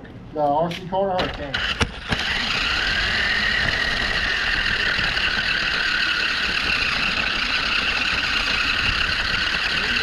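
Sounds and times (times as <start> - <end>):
electric motor and gears whining: 1.2 - 10.0.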